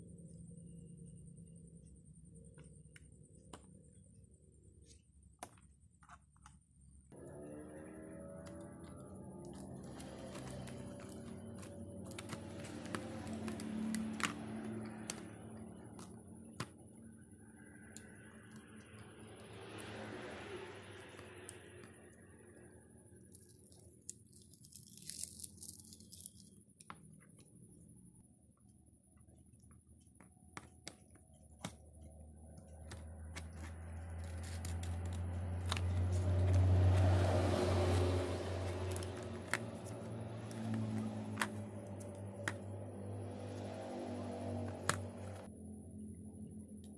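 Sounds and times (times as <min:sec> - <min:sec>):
low hum with rushing noise: 0:00.0 - 0:24.2, 0:25.6 - 0:46.9.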